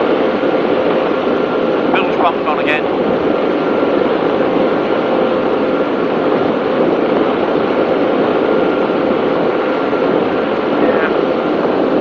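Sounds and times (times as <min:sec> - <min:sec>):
powerboat engine drone: 0:00.0 - 0:12.0
rush of wind and water: 0:00.0 - 0:12.0.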